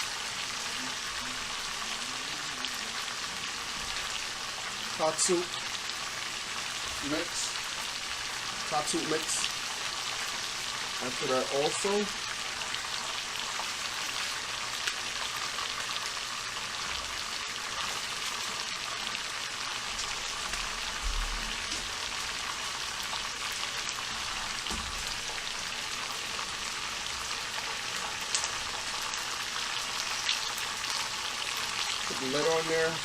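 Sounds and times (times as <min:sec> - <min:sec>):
food sizzling on stovetop: 0:00.0 - 0:33.0.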